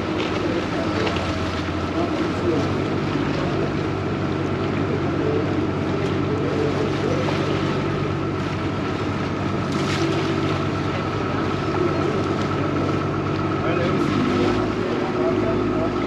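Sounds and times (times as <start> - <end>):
boat engine humming: 0.0 - 16.0
rushing water: 0.0 - 16.0
wind: 0.0 - 16.0.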